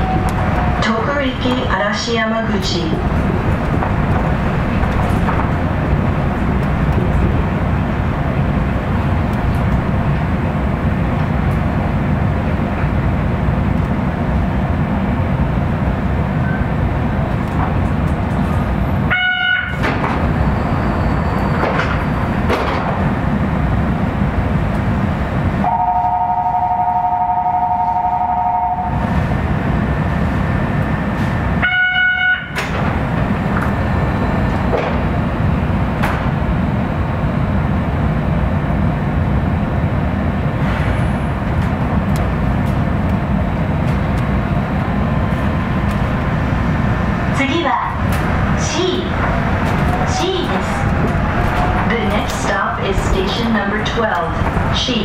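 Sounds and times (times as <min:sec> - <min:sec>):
monorail train rumbling: 0:00.0 - 0:55.0.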